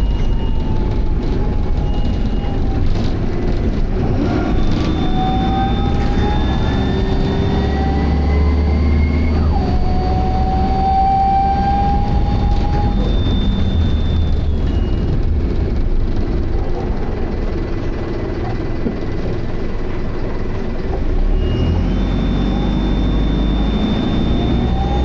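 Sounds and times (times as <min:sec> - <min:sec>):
bus gearbox whining: 0:00.0 - 0:21.2
diesel engine drone: 0:00.0 - 0:25.0.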